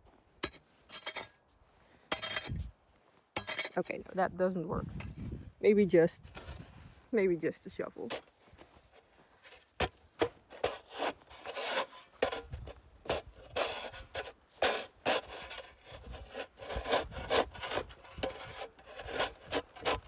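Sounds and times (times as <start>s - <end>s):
snow shovel scraping icy snow: 0.4s - 2.7s, 5.9s - 20.0s.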